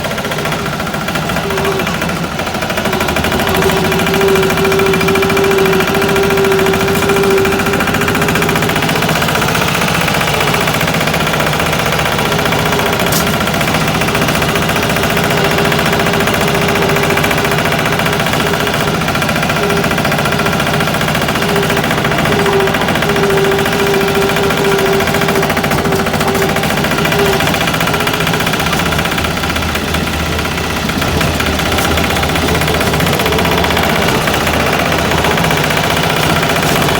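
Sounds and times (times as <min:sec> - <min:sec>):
single-cylinder engine running: 0:00.0 - 0:36.9.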